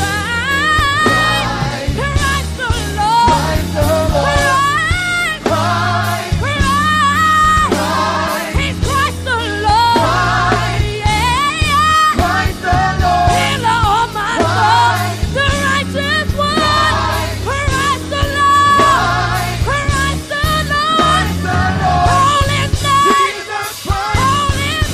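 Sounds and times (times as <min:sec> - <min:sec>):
band with bass and drums: 0:00.0 - 0:24.9
person singing with vibrato: 0:00.0 - 0:24.9.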